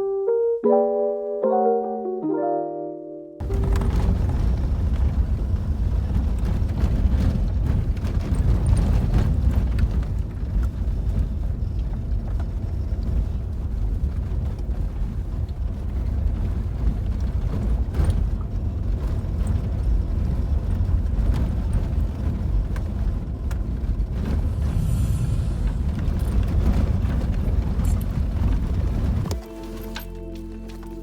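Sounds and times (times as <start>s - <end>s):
vehicle rumbling on rough track: 3.4s - 30.0s.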